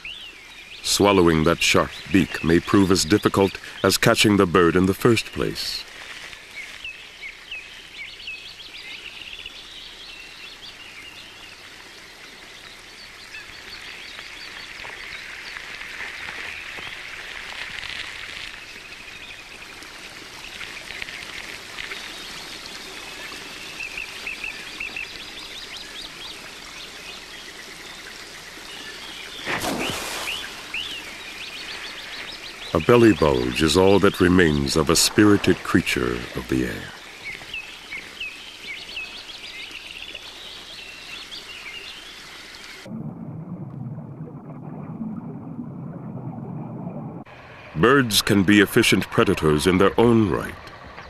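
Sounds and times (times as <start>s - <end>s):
birds chirping: 0.0s - 17.0s, 18.6s - 42.9s, 47.7s - 51.0s
background hiss: 0.0s - 42.9s.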